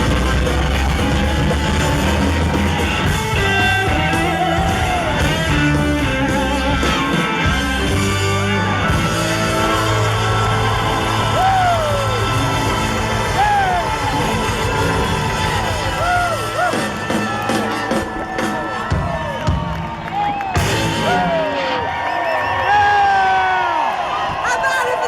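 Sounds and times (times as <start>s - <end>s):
live rock band playing: 0.0s - 22.2s.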